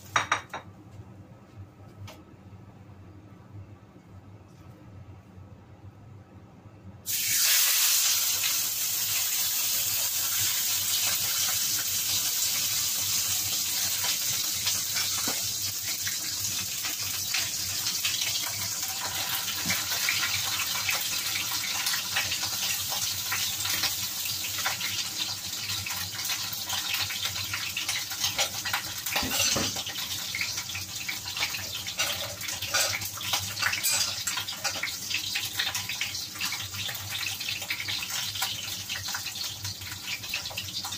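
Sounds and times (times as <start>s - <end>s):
meat sizzling in a frying pan: 7.0s - 40.9s.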